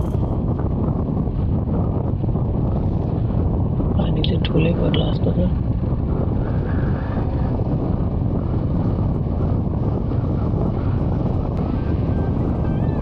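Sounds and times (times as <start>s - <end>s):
road noise: 0.0s - 13.0s
wind rush on microphone: 0.0s - 13.0s.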